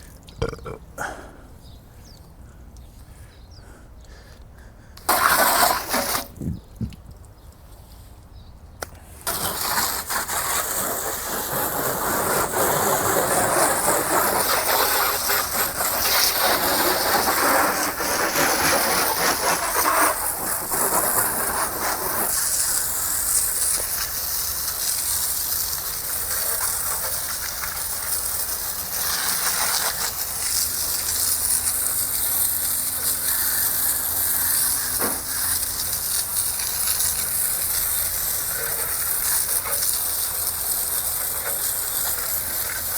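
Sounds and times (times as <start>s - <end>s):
water spraying on car: 5.0s - 6.4s, 9.1s - 42.9s.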